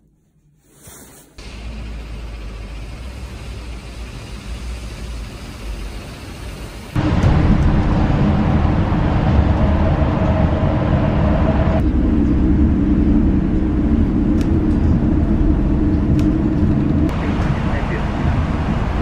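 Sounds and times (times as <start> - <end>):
bus engine and tyres rumbling: 1.4 - 19.0.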